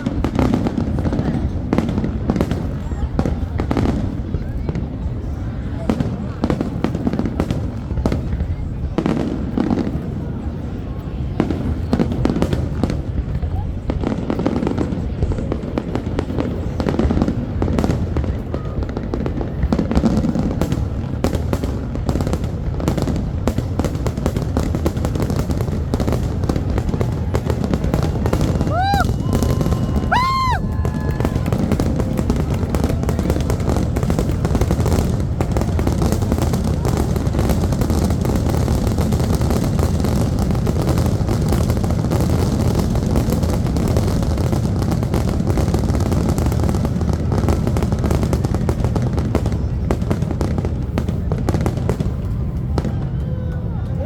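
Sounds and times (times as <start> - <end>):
crowd chatter: 0.0 - 54.0
fireworks popping and banging: 0.0 - 54.0.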